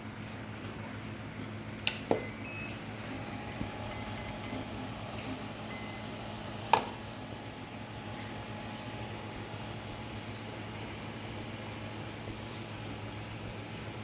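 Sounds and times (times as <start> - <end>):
model excavator electric hum: 1.3 - 14.0.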